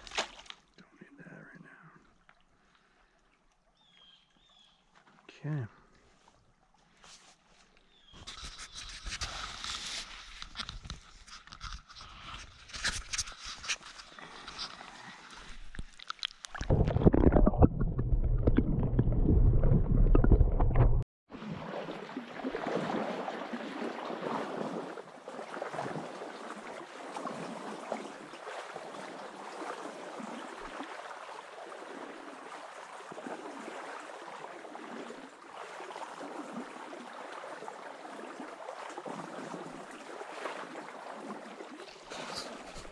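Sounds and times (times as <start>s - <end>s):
creek running: 0.0s - 19.0s, 21.3s - 42.9s
water sloshing against camera: 0.0s - 42.9s.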